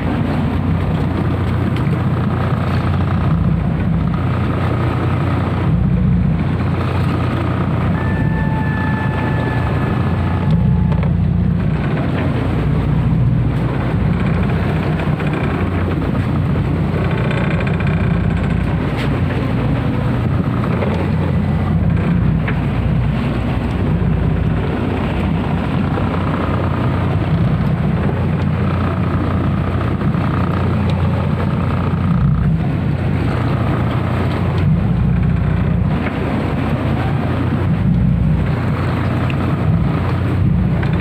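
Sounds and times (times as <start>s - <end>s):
boat engine running: 0.0s - 41.0s
wind buffeting microphone: 0.0s - 41.0s.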